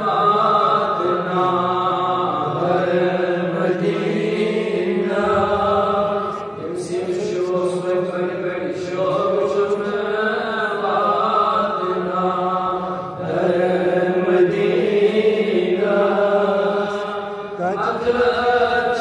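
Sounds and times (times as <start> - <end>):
man chanting into a microphone: 0.0 - 12.5, 16.2 - 19.0.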